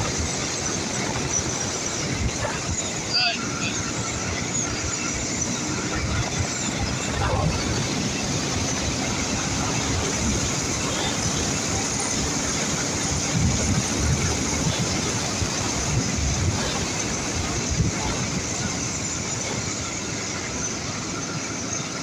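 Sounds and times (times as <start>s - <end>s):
motorcycle engine running: 0.0s - 22.0s
wind rush on microphone: 0.0s - 22.0s.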